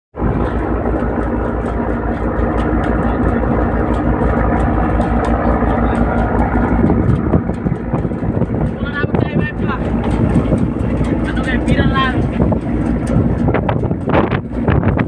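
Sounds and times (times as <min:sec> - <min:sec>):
boat engine throbbing: 0:00.1 - 0:15.0.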